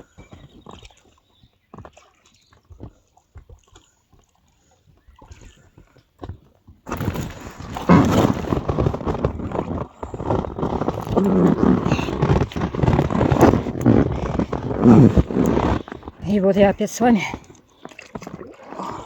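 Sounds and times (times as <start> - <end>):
water splashing around a boat: 0.0 - 19.0.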